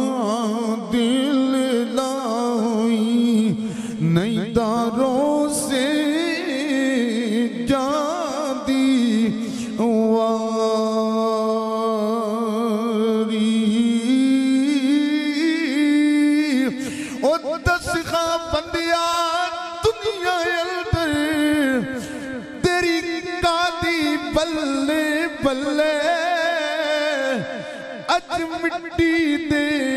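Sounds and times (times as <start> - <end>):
man chanting: 0.0 - 29.9.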